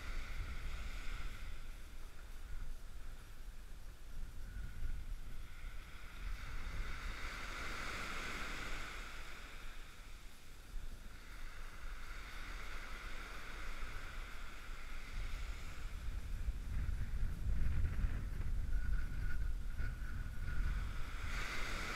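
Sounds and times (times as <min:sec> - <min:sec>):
small waves washing on sand: 0:00.0 - 0:17.8, 0:19.2 - 0:21.9
wind buffeting microphone: 0:00.0 - 0:21.9.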